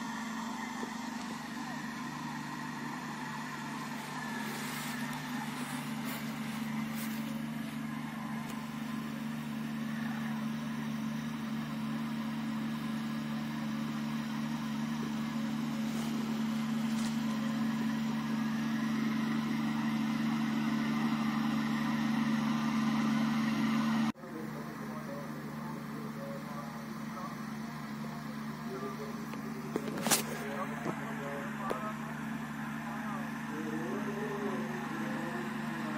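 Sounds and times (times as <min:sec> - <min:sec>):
sprayer engine humming: 0:00.0 - 0:35.9.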